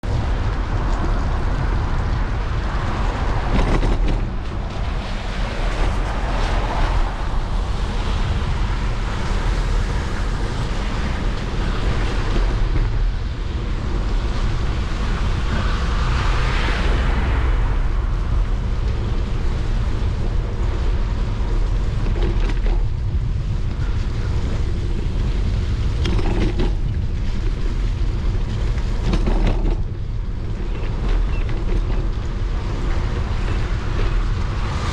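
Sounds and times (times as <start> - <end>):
bicycle tyres on road: 0.0 - 34.9
wind on microphone: 0.0 - 34.9.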